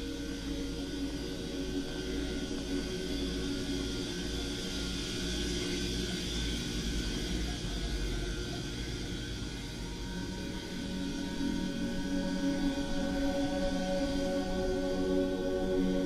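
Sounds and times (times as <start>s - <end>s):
ambient music drone: 0.0s - 16.0s.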